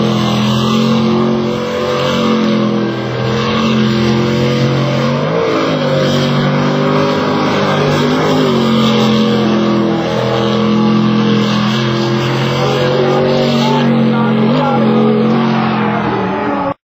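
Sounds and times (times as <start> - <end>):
motorboat engine revving: 0.0 - 16.8.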